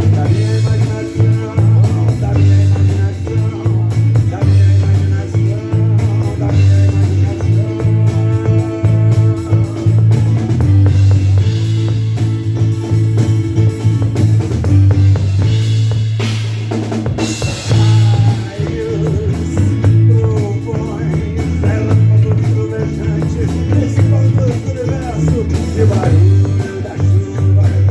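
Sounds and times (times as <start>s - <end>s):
bass notes: 0.0s - 27.9s
drum kit beat: 0.0s - 27.9s
guitar: 0.0s - 27.9s.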